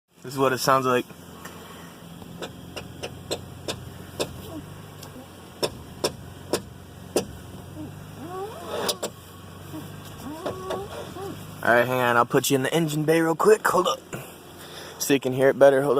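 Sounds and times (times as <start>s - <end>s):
car engine humming: 0.1s - 15.9s.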